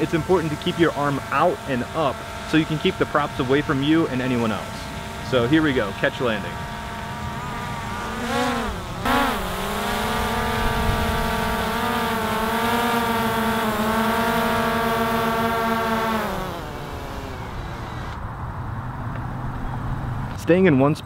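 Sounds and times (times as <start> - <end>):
drone propellers whining: 0.0 - 19.2.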